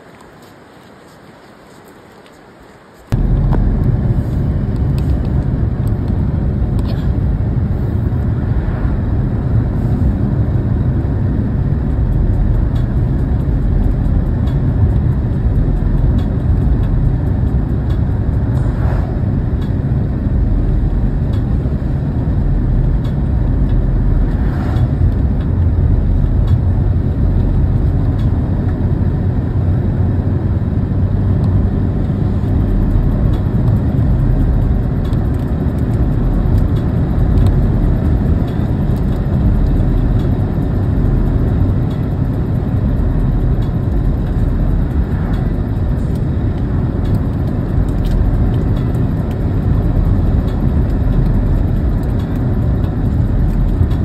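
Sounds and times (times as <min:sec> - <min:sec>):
car driving rumble: 0:03.0 - 0:54.0.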